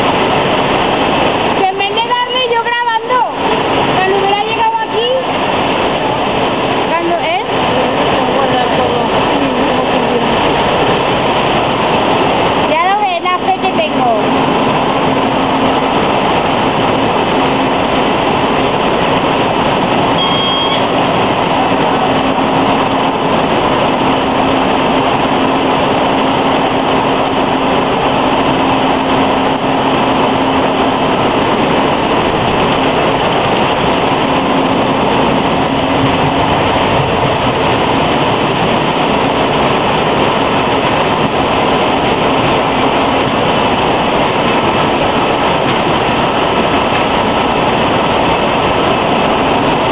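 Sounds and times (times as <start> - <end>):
steady machine noise: 0.0 - 49.9.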